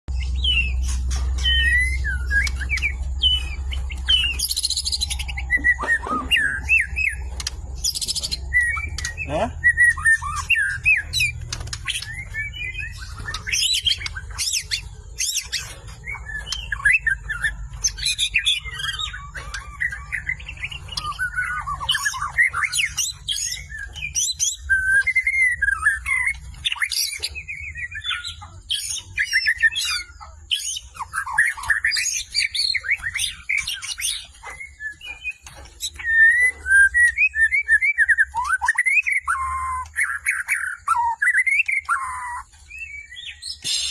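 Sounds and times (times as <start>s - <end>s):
songbird whistling song: 0.1s - 43.9s.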